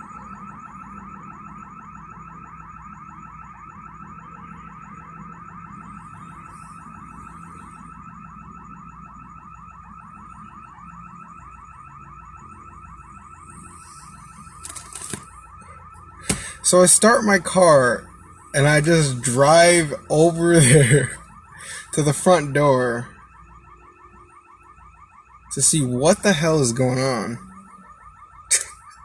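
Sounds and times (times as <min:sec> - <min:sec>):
security alarm electronic warble: 0:00.0 - 0:29.0.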